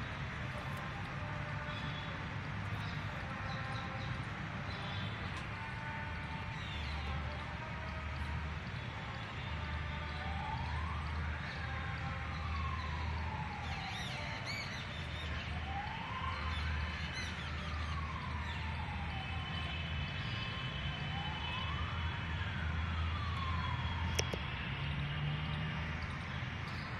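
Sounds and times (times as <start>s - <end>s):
emergency siren wailing: 0.0s - 26.9s.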